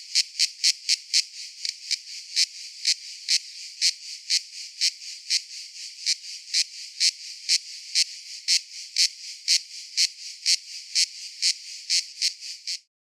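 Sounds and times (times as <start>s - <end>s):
cicada pulsing call: 0.0s - 12.9s.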